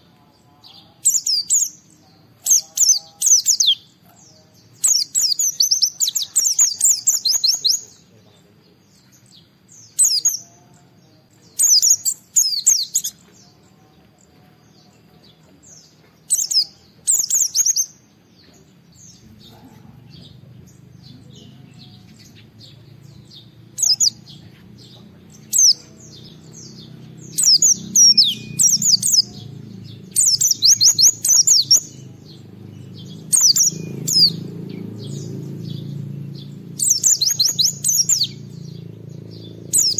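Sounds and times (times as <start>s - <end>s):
bird twittering: 1.0s - 8.2s, 8.9s - 10.8s, 11.4s - 13.6s, 14.3s - 39.9s.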